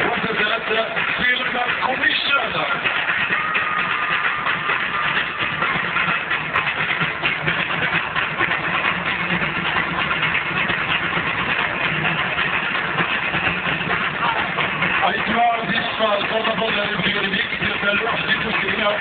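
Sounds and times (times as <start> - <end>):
crowd and stage noise: 0.0 - 19.0.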